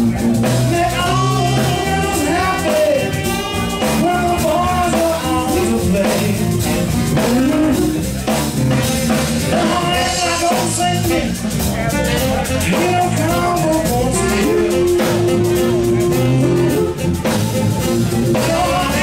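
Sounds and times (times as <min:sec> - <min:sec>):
blues soul band playing: 0:00.0 - 0:19.0.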